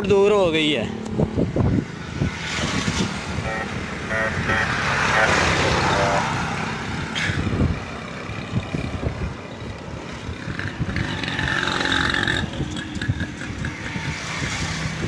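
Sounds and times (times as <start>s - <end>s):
road traffic passing: 0.0s - 15.0s
vehicle passing loudly: 0.9s - 15.0s.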